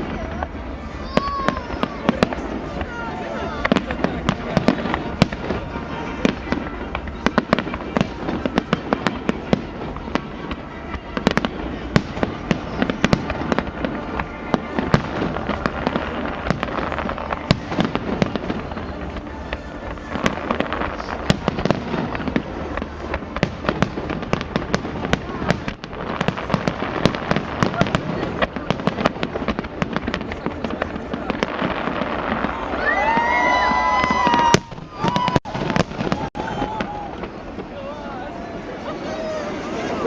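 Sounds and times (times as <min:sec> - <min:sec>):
fireworks bangs and crackling pops: 0:00.0 - 0:40.0.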